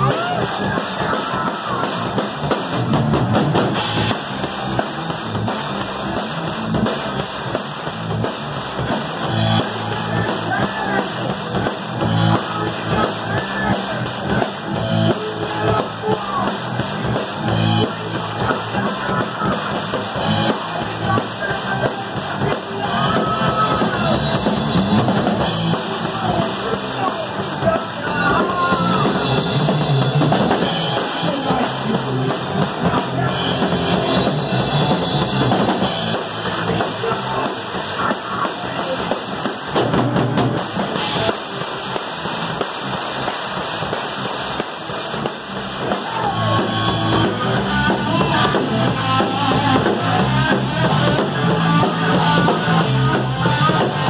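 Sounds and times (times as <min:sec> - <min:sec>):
drum kit with crashing cymbals: 0:00.0 - 0:54.0
electric bass: 0:00.0 - 0:54.0
electric guitar: 0:00.0 - 0:54.0.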